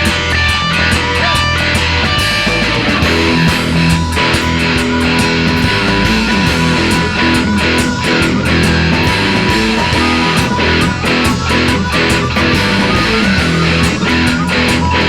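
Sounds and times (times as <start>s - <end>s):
electric guitar: 0.0s - 15.0s
rock band instrumental: 0.0s - 15.0s.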